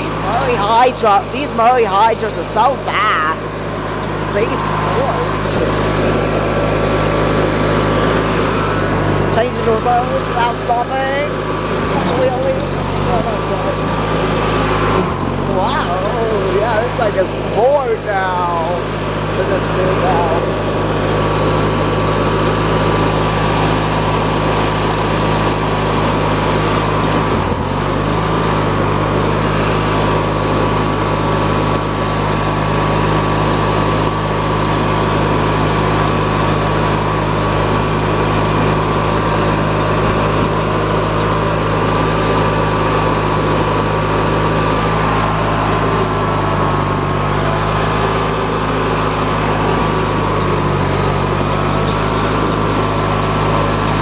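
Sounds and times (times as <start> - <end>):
riding mower engine running: 0.0 - 54.0.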